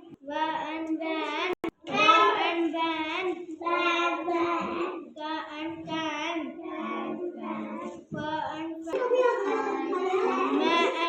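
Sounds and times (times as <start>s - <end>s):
children chanting in chorus: 1.9s - 11.0s.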